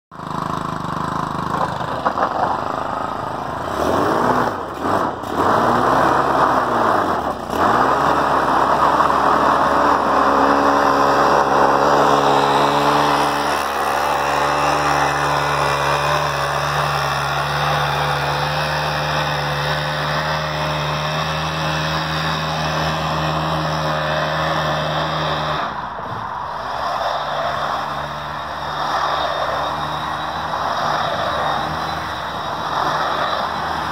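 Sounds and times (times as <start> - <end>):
two-stroke power broom engine: 0.1 - 33.9.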